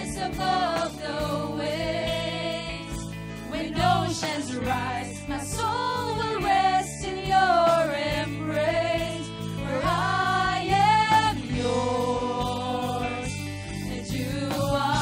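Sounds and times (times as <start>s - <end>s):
backing singers: 0.0s - 15.0s
woman singing lead vocal: 0.0s - 15.0s
worship band playing: 0.0s - 15.0s.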